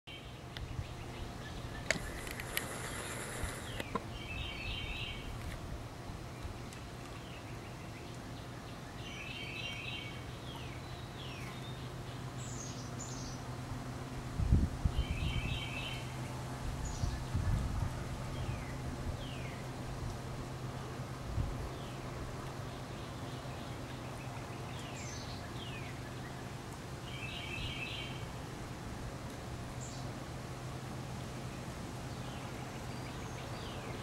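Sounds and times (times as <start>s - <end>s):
steady low background hum: 0.1s - 34.0s.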